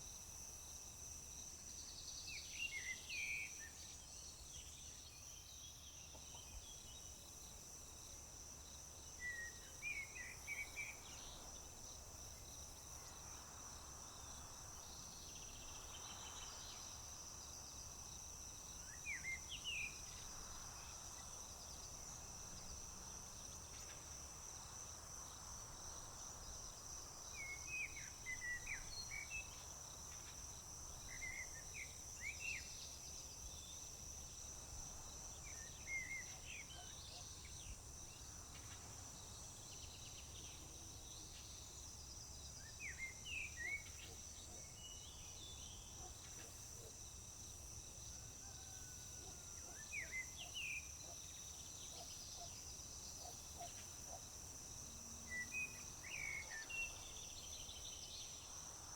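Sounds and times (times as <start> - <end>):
crickets trilling: 9.8 - 58.9.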